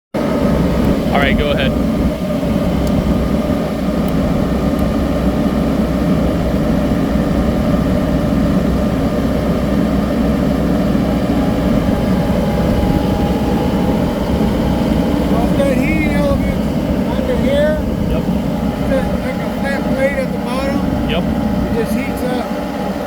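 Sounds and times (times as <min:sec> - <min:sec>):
paver engine running: 0:00.2 - 0:23.0.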